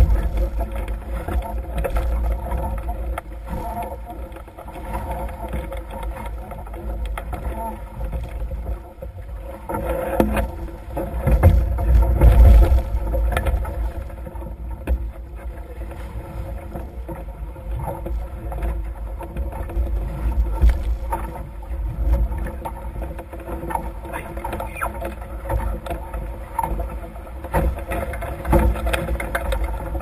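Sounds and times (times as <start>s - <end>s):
water rushing along hulls: 0.0s - 30.0s
wind rumbling on microphone: 0.0s - 30.0s.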